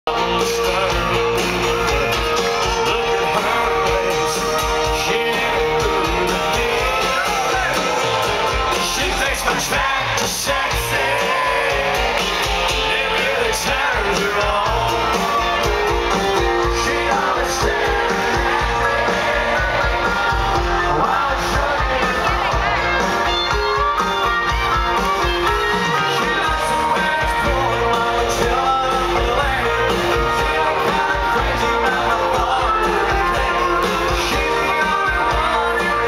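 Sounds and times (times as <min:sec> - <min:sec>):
guitars: 0:00.1 - 0:36.0
lead singer: 0:00.1 - 0:36.0.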